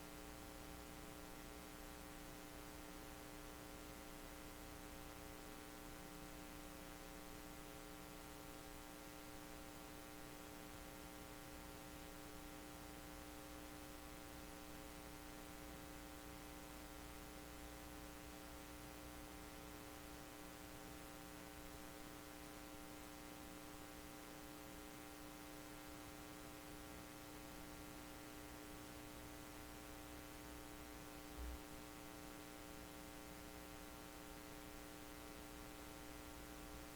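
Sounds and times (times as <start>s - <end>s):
steady electrical hum: 0.0s - 36.9s.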